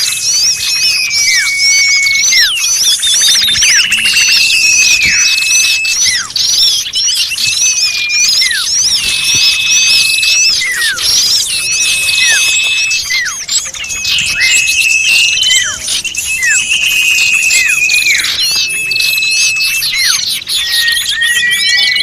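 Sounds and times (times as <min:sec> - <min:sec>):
chorus of small birds calling: 0:00.0 - 0:22.0.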